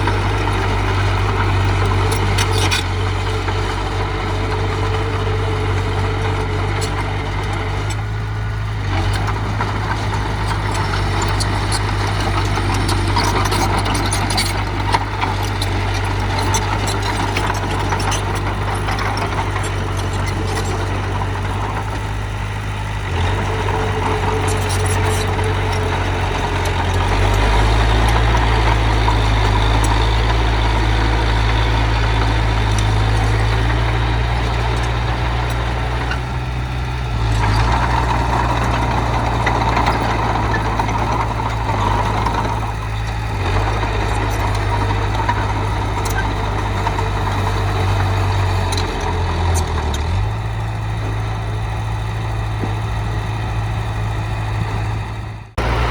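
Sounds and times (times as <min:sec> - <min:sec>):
heavy machinery engine running: 0:00.0 - 0:55.9.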